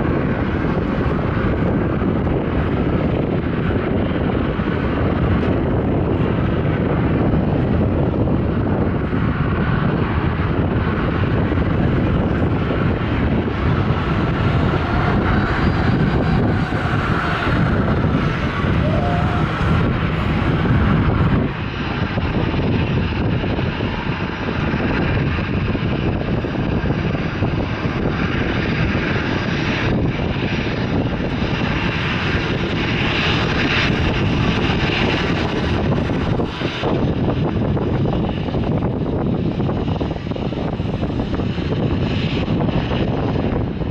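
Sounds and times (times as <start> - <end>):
jet engines roaring: 0.0 - 43.9
wind rumble on microphone: 0.0 - 43.9.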